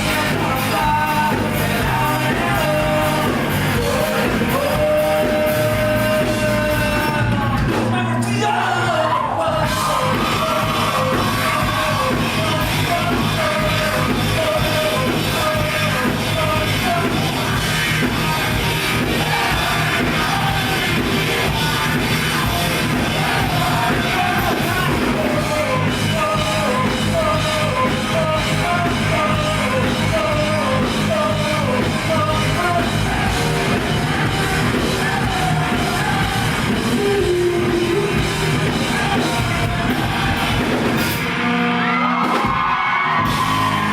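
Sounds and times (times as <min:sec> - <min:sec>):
person singing: 0:00.0 - 0:41.8
rock band playing live: 0:00.0 - 0:43.9.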